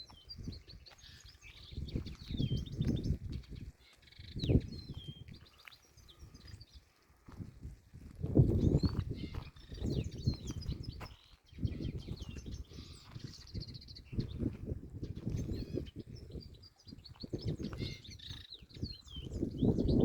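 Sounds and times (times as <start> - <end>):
songbird chirping and trilling: 0.0 - 7.3, 8.3 - 20.0.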